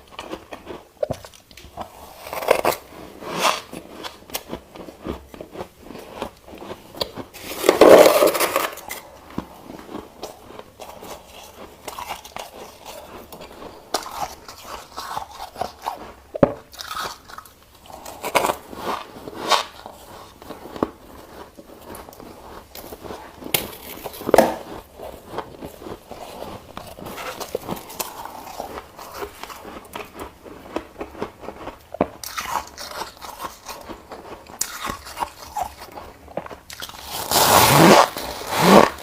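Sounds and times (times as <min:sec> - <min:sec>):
ice being bitten and chewed: 0:00.0 - 0:39.0.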